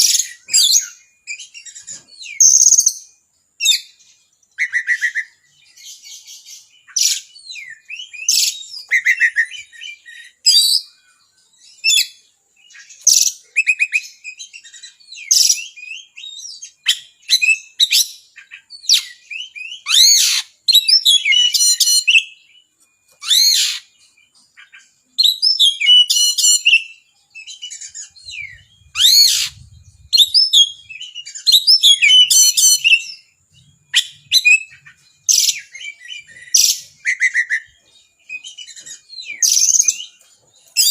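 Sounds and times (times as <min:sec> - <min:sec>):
songbird singing varied phrases: 0:00.0 - 0:40.9.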